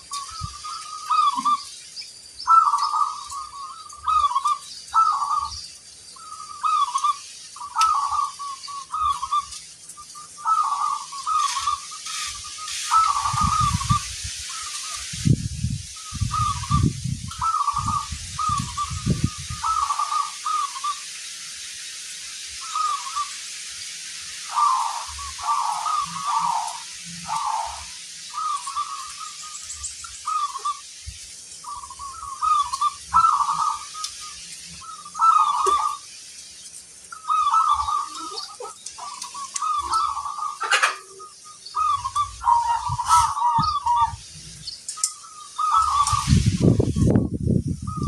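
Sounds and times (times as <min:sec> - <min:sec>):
doves cooing: 0:00.0 - 0:01.7, 0:02.4 - 0:05.6, 0:06.2 - 0:15.1, 0:16.0 - 0:21.0, 0:22.6 - 0:23.4, 0:24.5 - 0:30.9, 0:31.6 - 0:36.1, 0:37.1 - 0:44.2, 0:45.0 - 0:47.0.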